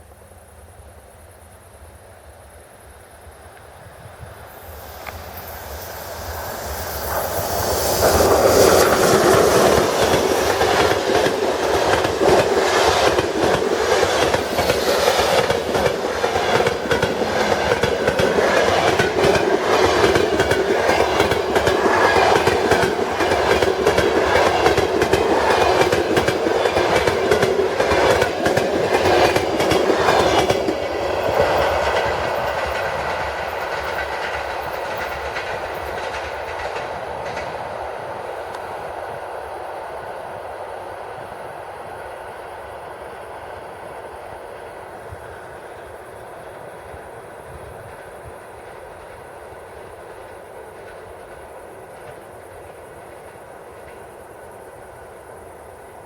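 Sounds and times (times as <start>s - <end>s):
train passing at speed: 0.0s - 56.0s
wheels clickety-clack over rail joints: 3.6s - 39.2s, 44.5s - 55.7s.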